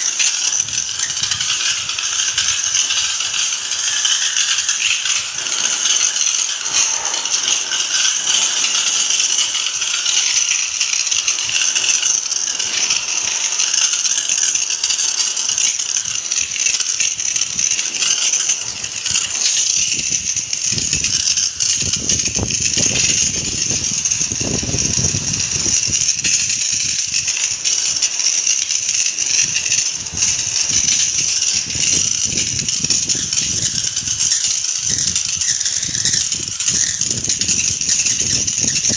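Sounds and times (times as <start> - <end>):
hose spray hissing: 0.0 - 38.9
water splattering on metal: 0.0 - 38.9.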